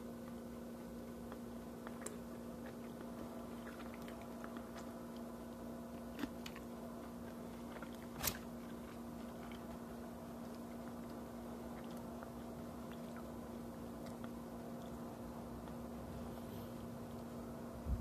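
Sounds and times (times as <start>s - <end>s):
chewing and mouth sounds: 0.0s - 16.1s
low hum: 0.0s - 18.0s.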